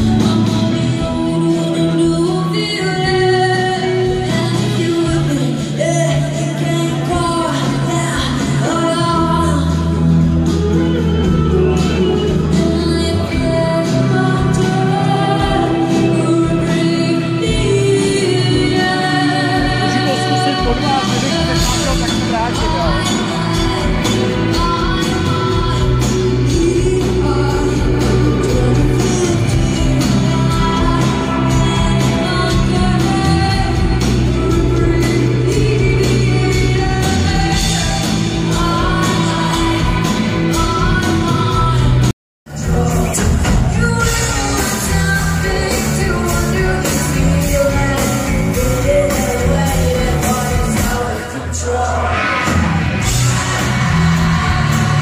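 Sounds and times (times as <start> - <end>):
person singing: 0.0 - 55.0
rock band playing live: 0.0 - 55.0.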